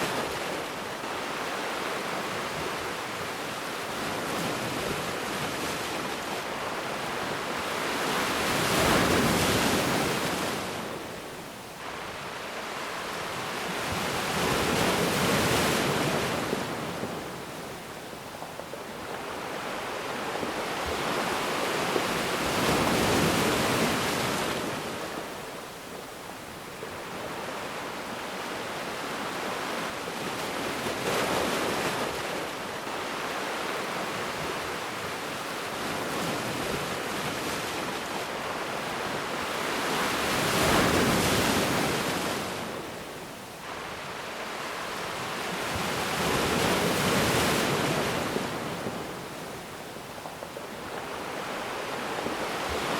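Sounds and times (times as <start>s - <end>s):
ocean waves breaking: 0.0s - 52.9s.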